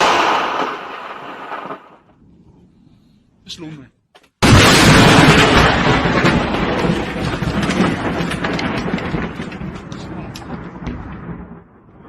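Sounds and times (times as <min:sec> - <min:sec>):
thunderclap: 0:00.0 - 0:02.6, 0:04.4 - 0:12.0.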